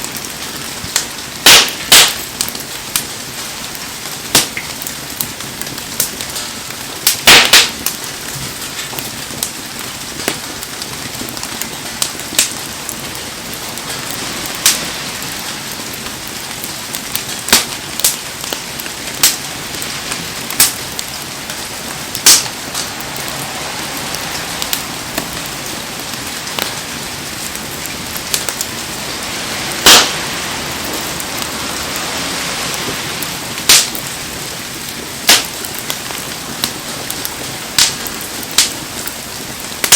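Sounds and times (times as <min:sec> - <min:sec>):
heavy rain hissing: 0:00.0 - 0:39.9
wood fire popping and crackling: 0:00.0 - 0:39.9.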